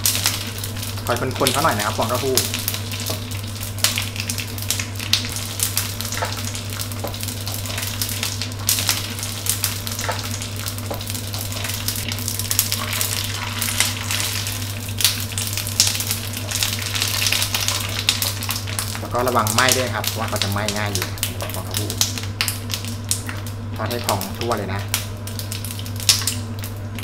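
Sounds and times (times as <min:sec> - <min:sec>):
tofu skin sizzling in oil: 0:00.0 - 0:24.2.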